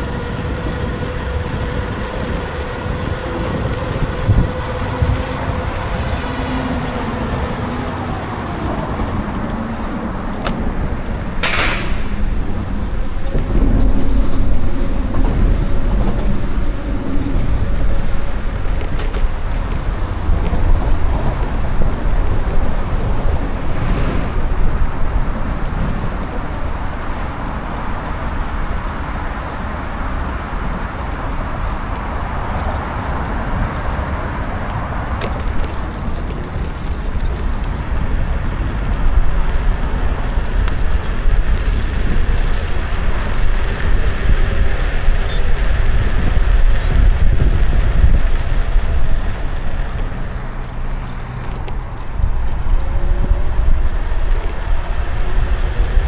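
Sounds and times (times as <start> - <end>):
scooter tyre and road noise: 0.0 - 56.0
wind rushing over microphone: 0.0 - 56.0.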